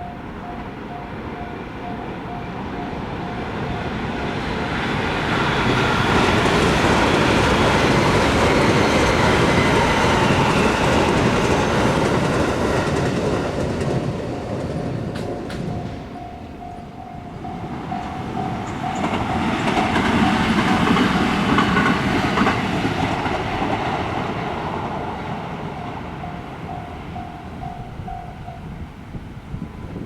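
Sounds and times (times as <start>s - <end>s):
crossing warning bell ringing: 0.0s - 22.6s, 23.4s - 30.0s
train wheels clattering on rails: 2.2s - 28.6s.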